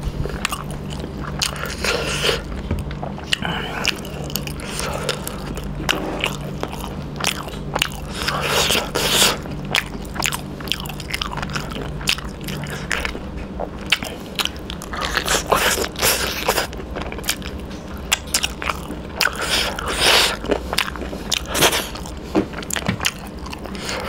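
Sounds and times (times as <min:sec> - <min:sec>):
crunchy chewing: 0:00.0 - 0:24.0.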